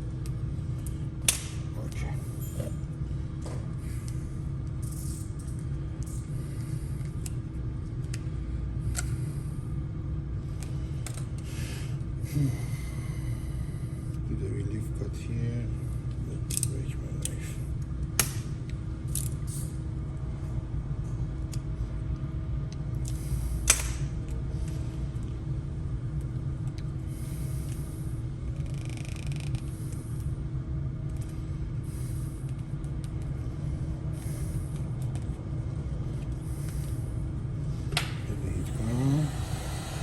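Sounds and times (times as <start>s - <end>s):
steady low rumble: 0.0s - 28.9s, 29.5s - 40.0s
faint steady hum: 0.0s - 40.0s.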